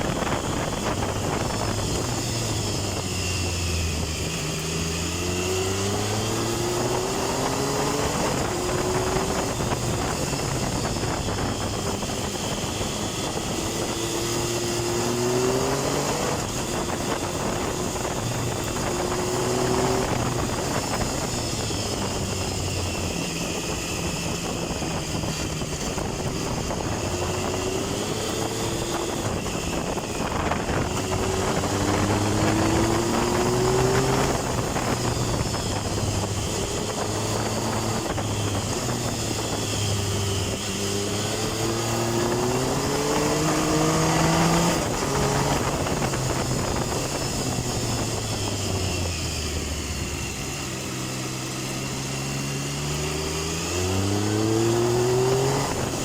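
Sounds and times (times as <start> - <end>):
motorcycle engine accelerating: 0.0 - 56.0
wind and road rush: 0.0 - 56.0.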